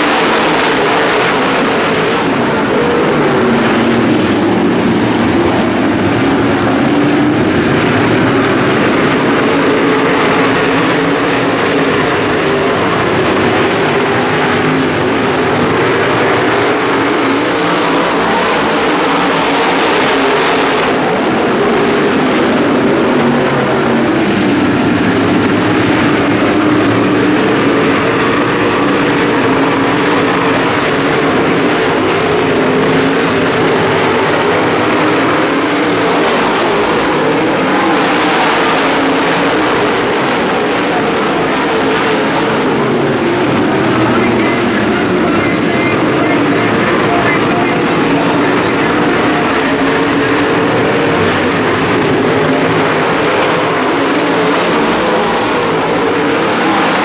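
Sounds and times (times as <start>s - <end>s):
race car engines running hard: 0.0s - 57.0s.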